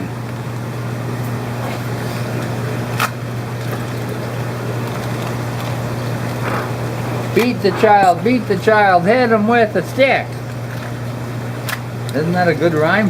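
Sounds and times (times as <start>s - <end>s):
circulating water: 0.0s - 13.0s
pumps humming: 0.0s - 13.0s.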